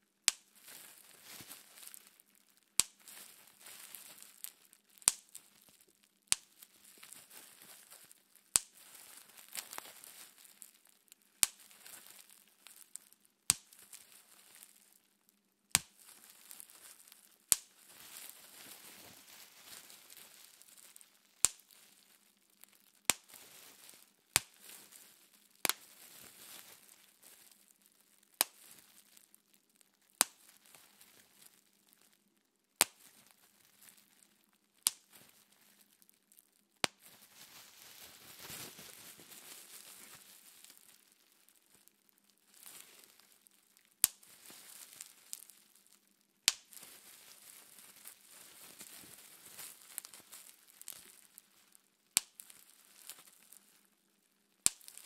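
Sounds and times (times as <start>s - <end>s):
bubble wrap popping: 0.0s - 55.0s
plastic crinkling: 0.3s - 54.0s, 54.6s - 55.0s.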